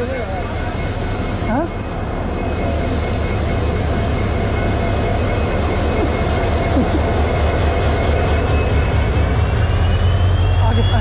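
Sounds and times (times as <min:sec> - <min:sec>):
thin high whine: 0:00.0 - 0:11.0
train rumbling: 0:00.0 - 0:11.0.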